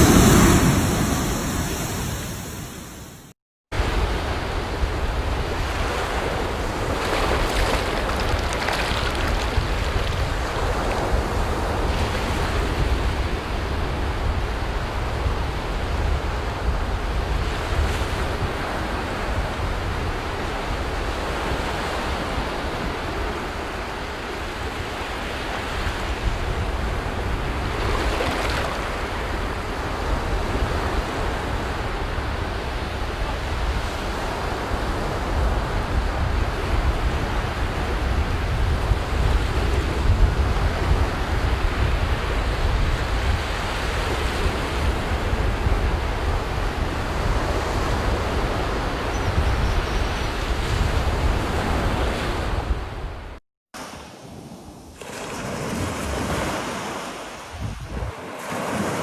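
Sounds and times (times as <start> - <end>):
sea waves breaking: 0.0 - 15.0, 20.4 - 49.0, 53.8 - 59.0
wind rumble on microphone: 0.0 - 53.4, 57.4 - 59.0.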